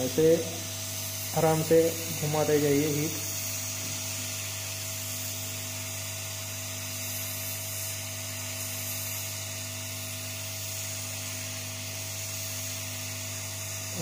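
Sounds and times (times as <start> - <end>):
hot air gun hissing: 0.0 - 14.0
motor hum with whine: 0.0 - 14.0.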